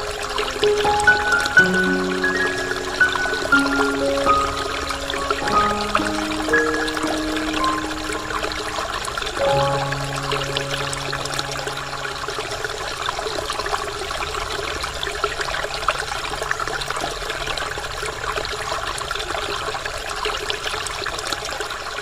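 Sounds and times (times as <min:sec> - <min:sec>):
waterfall rushing and splashing: 0:00.0 - 0:22.0.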